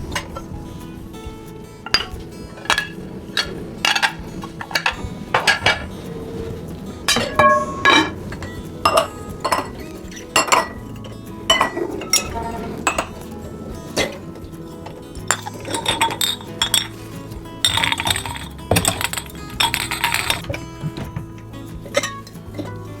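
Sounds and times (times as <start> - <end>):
dishes and cutlery clinking: 0.0 - 23.0.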